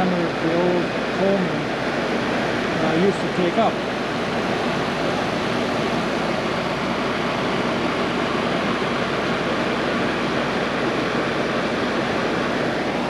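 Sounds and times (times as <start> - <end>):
air conditioner fan rushing: 0.0 - 13.0.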